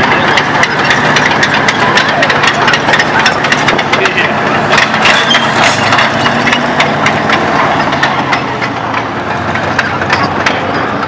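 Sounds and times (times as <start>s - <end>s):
diesel engine drone: 0.0s - 11.0s
steel tracks clattering: 0.0s - 11.0s.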